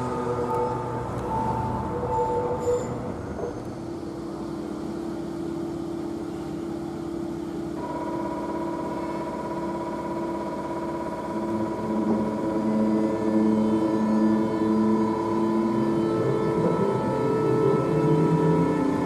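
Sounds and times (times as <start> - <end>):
electric locomotive humming: 0.0 - 19.0
high steady whine: 0.0 - 19.0.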